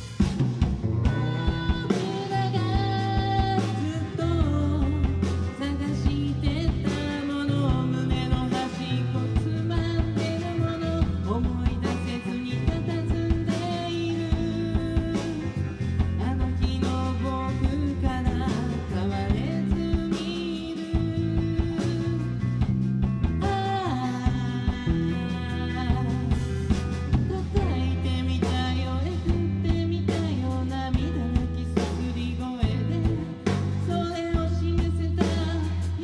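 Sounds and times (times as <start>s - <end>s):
drum and cymbal hits: 0.0s - 36.0s
electric guitar: 0.0s - 36.0s
person singing: 1.0s - 36.0s.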